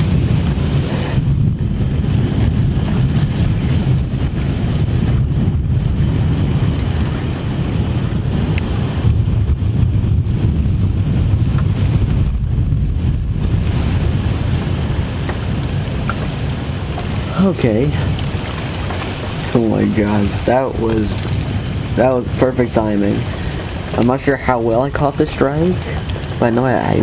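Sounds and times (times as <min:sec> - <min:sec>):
low steady thunder rumble: 0:00.0 - 0:27.0
rain: 0:00.0 - 0:27.0
wind buffeting microphone: 0:00.0 - 0:27.0.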